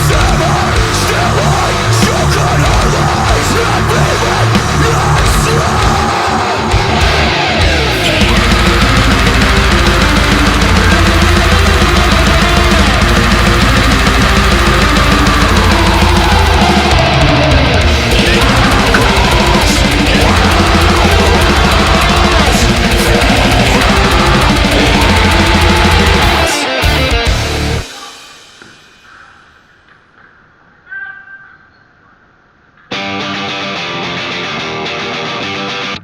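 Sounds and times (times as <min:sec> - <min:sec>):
heavy rock music: 0:00.0 - 0:29.3, 0:32.9 - 0:36.0.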